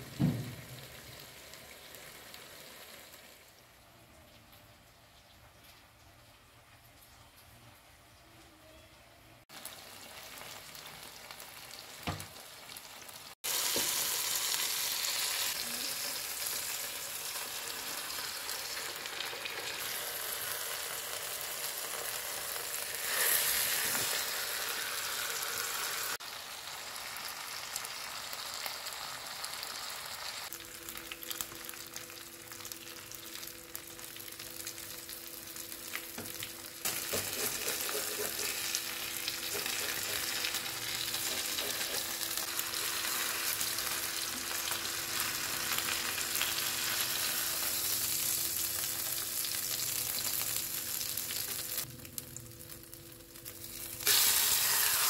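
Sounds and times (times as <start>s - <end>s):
food sizzling in a pan: 0.0s - 3.8s, 9.5s - 55.0s.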